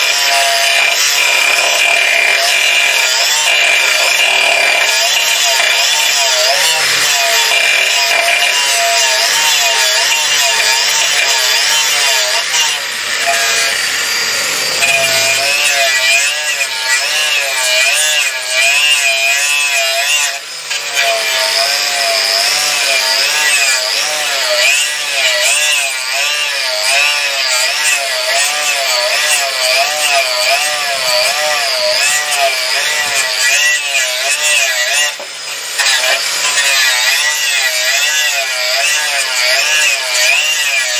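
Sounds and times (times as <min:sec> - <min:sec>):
electric power tool running: 0:00.0 - 0:24.6, 0:27.9 - 0:40.8.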